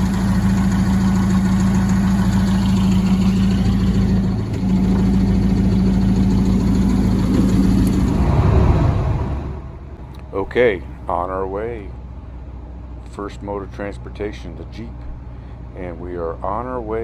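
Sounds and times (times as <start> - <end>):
car engine running: 0.0 - 16.4.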